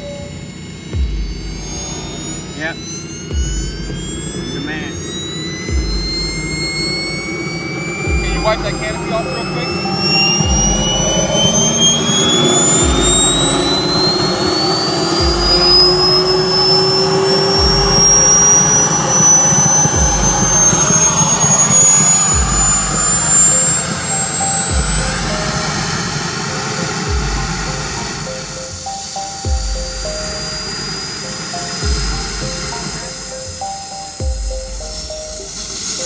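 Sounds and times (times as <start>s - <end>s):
turbine jet engine whine: 0.0s - 36.0s.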